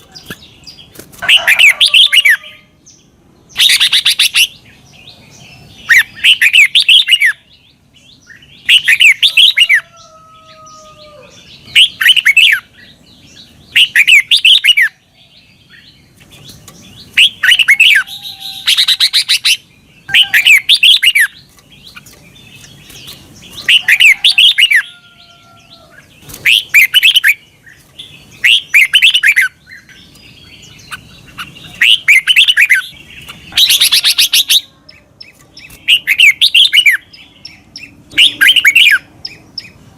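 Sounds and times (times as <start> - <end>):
bulbul warbled song: 0.0 - 39.9.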